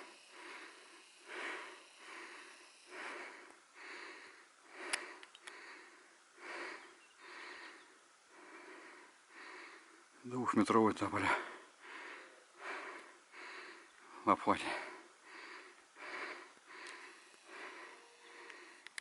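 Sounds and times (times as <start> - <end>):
heavy breathing: 0.0 - 10.2, 11.3 - 19.0.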